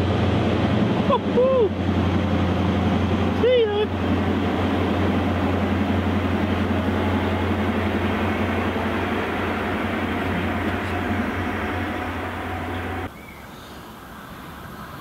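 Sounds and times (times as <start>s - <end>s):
diesel train engine drone: 0.0s - 13.2s.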